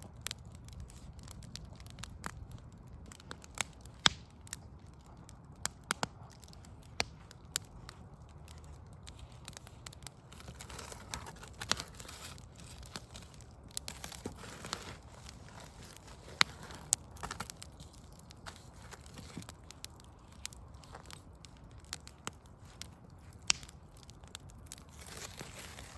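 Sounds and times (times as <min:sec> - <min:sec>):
low hiss and rumble of flames: 0:00.0 - 0:25.9
wood fire crackling and popping: 0:00.0 - 0:25.9.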